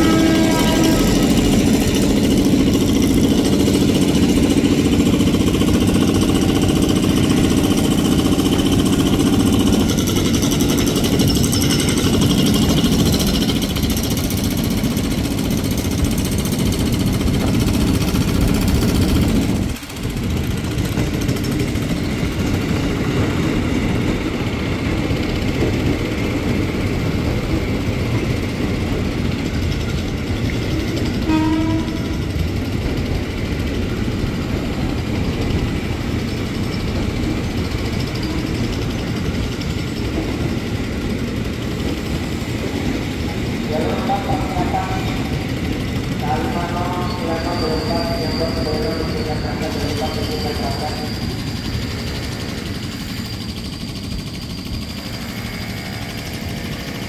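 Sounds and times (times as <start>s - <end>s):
train motor hum: 0.0s - 57.0s
train wheels on rails: 0.0s - 57.0s.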